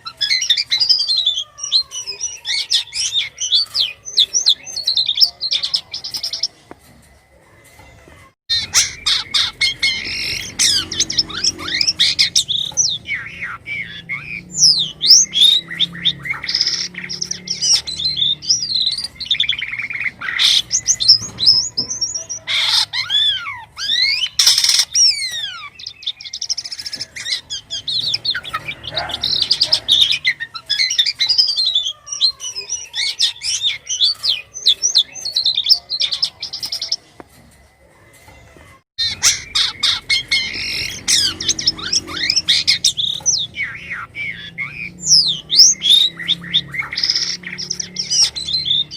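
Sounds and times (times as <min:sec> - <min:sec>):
harsh rasping bird calls: 0:00.0 - 0:06.8, 0:07.6 - 0:48.9
starling singing: 0:00.0 - 0:48.9.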